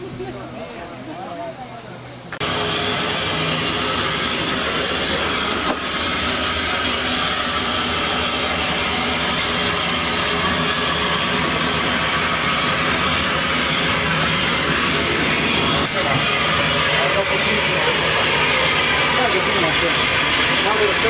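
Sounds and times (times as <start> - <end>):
steam locomotive hissing and rumbling: 0.0 - 21.0.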